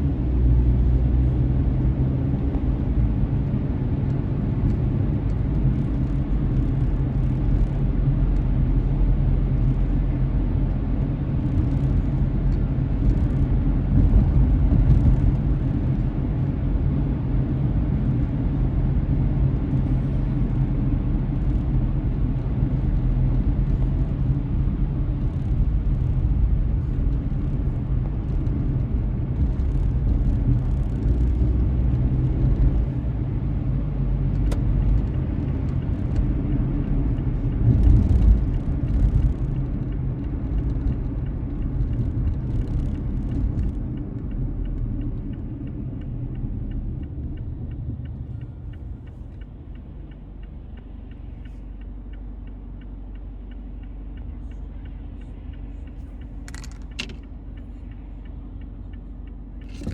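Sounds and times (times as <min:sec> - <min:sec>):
tyres and engine rumbling inside car: 0:00.0 - 0:59.9.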